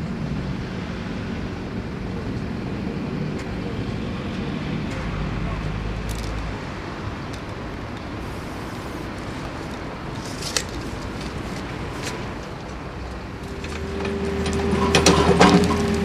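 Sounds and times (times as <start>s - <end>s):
excavator engine and hydraulics whine: 0.0s - 16.0s
street traffic: 0.0s - 16.0s.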